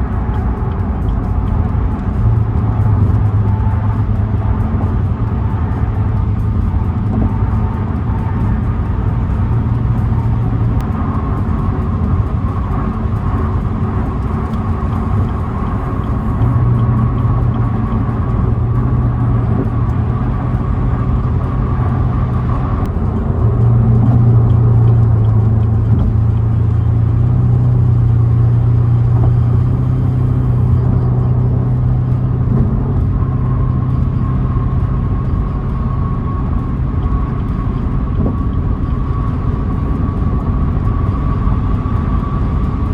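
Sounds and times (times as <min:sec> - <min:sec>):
car engine drone: 0:00.0 - 0:42.9
tyre and road noise: 0:00.0 - 0:42.9.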